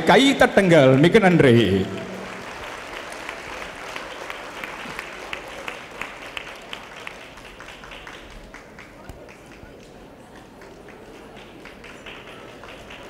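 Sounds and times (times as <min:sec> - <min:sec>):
audience applauding: 0:00.1 - 0:13.0.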